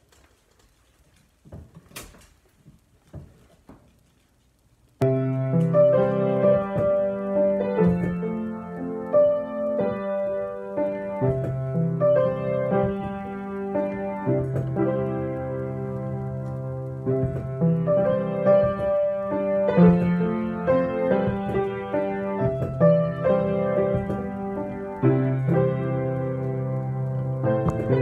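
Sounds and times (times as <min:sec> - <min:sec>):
piano music: 0:05.0 - 0:28.0.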